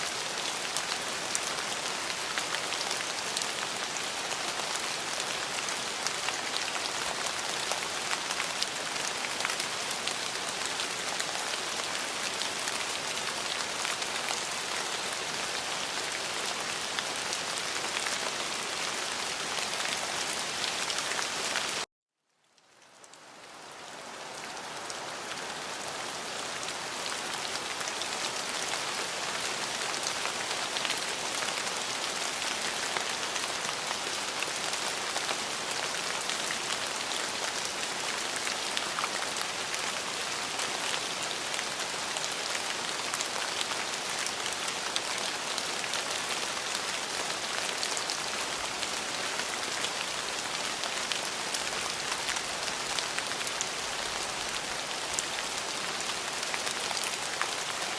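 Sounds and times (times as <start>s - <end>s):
rain falling on a surface: 0.0s - 57.9s.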